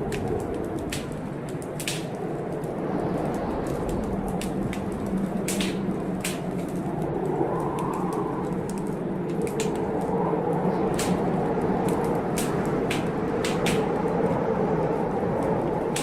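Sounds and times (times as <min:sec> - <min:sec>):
heavy blizzard wind: 0:00.0 - 0:16.0
wood fire crackling and popping: 0:00.0 - 0:16.0.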